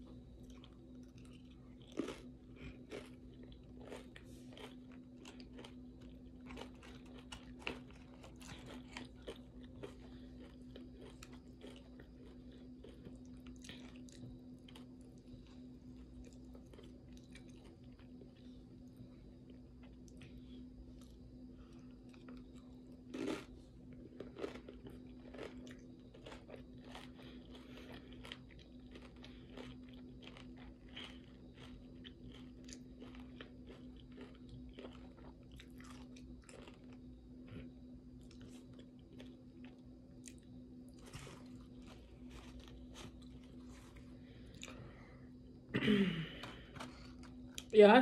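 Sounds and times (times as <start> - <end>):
chewing crunchy chips: 0.0 - 45.6, 46.2 - 47.9
faint steady hum: 0.0 - 48.0.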